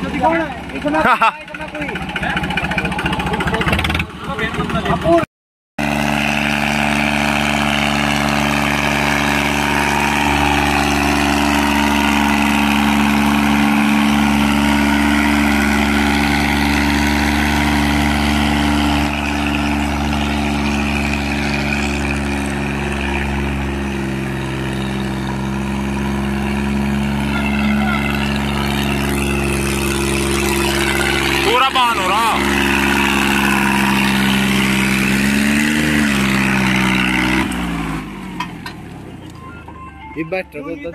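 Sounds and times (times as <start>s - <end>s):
tractor diesel engine running: 0.0s - 5.2s, 5.8s - 40.9s.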